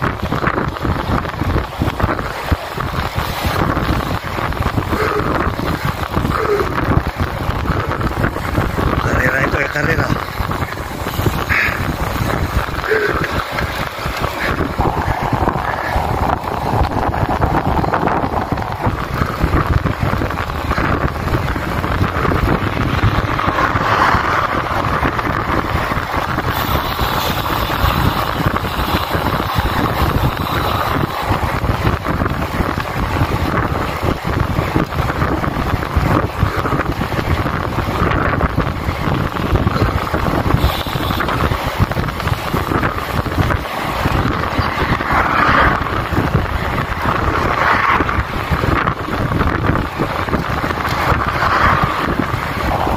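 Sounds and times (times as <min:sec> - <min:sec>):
tyre and road noise: 0:00.0 - 0:52.9
wind rushing over microphone: 0:00.0 - 0:52.9.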